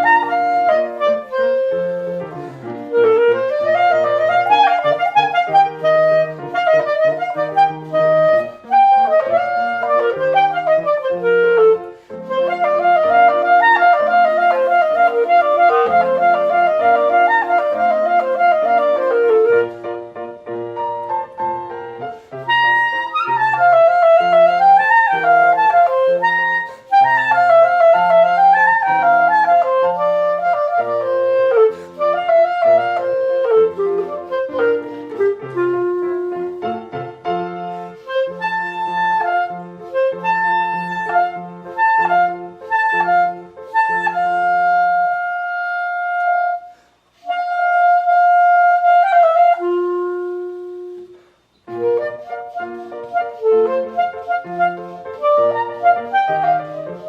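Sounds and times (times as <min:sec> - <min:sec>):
clarinet melody: 0:00.0 - 0:57.0
piano accompaniment: 0:00.0 - 0:57.0.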